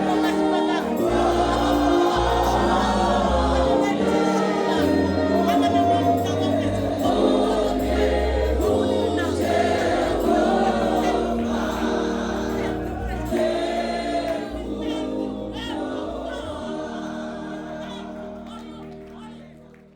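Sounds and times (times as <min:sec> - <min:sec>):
choir singing gospel: 0:00.0 - 0:19.9
instrumental backing: 0:00.0 - 0:19.9.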